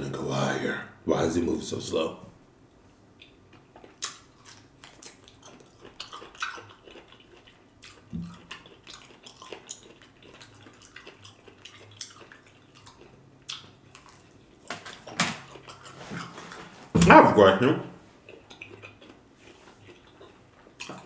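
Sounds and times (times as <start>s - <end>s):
man chewing food: 2.7s - 16.9s, 18.0s - 21.0s.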